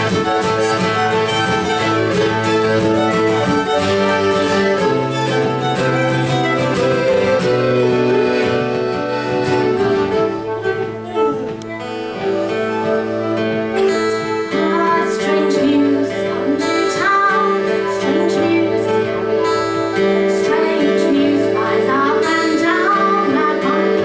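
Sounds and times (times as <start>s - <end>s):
fiddle playing a tune: 0.0s - 24.0s
strummed acoustic guitar: 0.0s - 24.0s.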